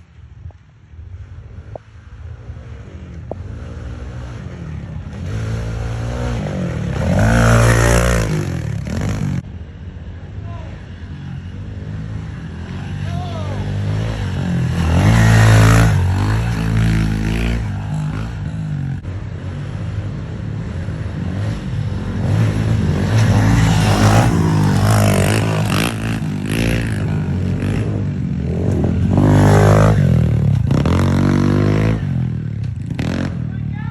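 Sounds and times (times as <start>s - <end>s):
pit bike engine revving: 3.4s - 9.4s, 11.7s - 33.6s.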